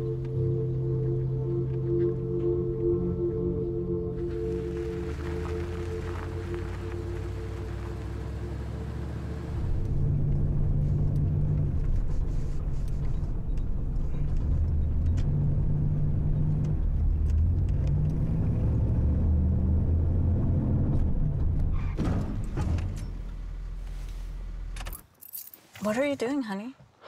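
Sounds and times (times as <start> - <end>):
car engine and road noise: 0.0 - 26.3.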